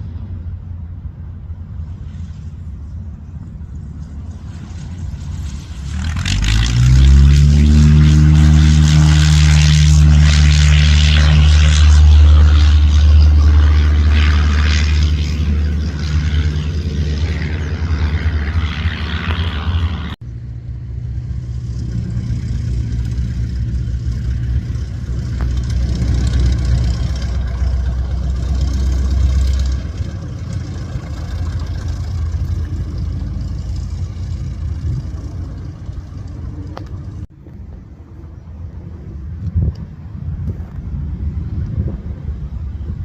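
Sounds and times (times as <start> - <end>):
propeller aircraft engine droning: 0.0 - 43.0.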